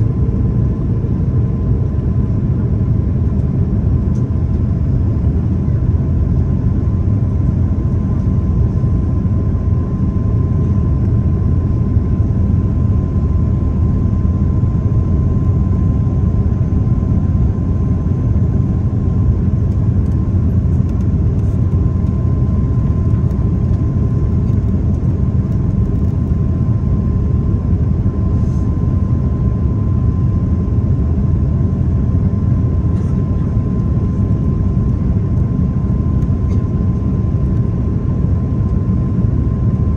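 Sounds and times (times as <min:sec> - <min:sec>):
aircraft engine roar: 0:00.0 - 0:39.9
thin steady whine: 0:00.0 - 0:39.9.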